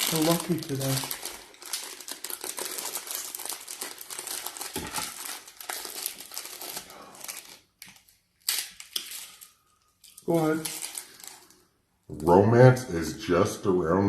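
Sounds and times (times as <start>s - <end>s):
plastic wrappers crinkling: 0.0s - 12.4s.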